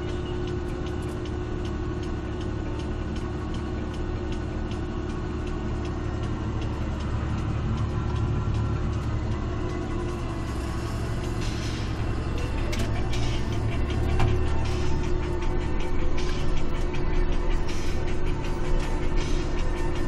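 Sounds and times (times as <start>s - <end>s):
passing tractor with trailer: 0.0s - 20.0s
tractor engine drone from cab: 0.0s - 20.0s.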